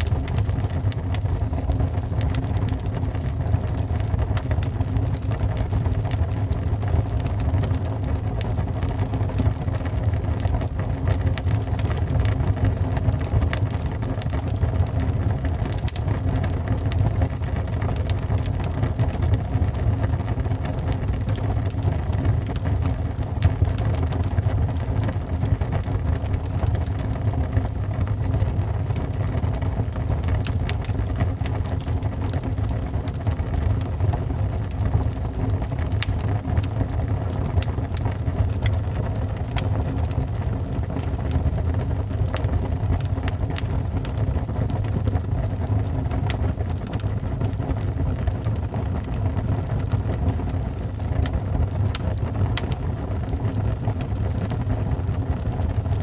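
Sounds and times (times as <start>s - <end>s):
fire crackling and popping: 0.0s - 56.0s
wood fire rumbling: 0.0s - 56.0s.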